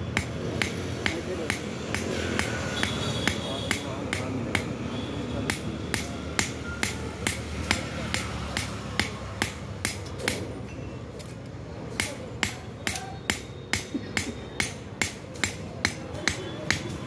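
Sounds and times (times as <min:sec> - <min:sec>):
hammer striking metal on anvil: 0:00.1 - 0:04.8, 0:05.4 - 0:10.5, 0:11.9 - 0:17.0.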